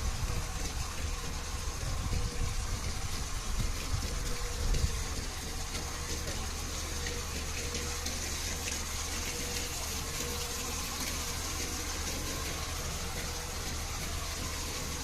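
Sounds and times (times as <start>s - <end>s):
low engine hum: 0.0s - 15.0s
water gushing out: 0.0s - 15.0s
water pump working: 0.0s - 15.0s.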